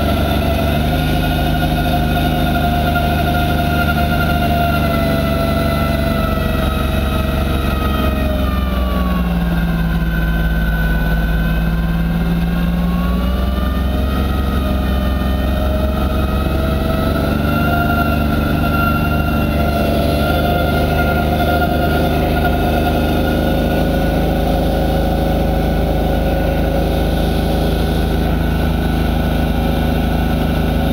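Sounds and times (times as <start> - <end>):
diesel tractor engine under load: 0.0 - 30.9.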